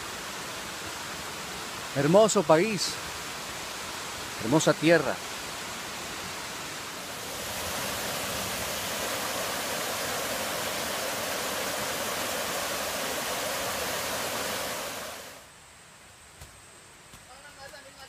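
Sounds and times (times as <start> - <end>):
stream rushing over rocks: 0.0 - 15.5.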